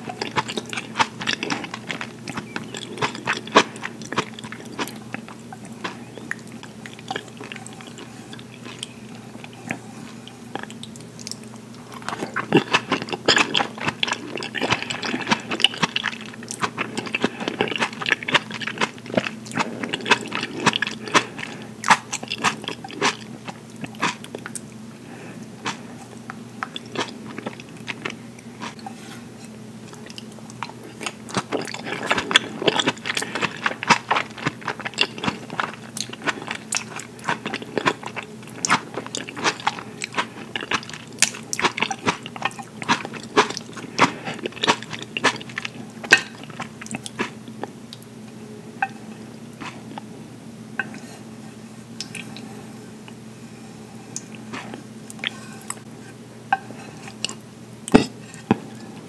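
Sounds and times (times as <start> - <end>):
chewing and biting: 0.0 - 24.6, 25.2 - 28.8, 29.9 - 47.7, 54.2 - 55.9.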